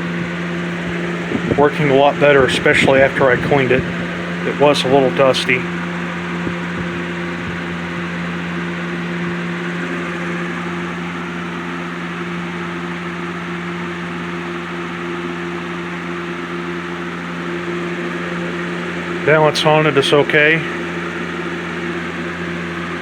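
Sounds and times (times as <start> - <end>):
box fan running: 0.0 - 23.0.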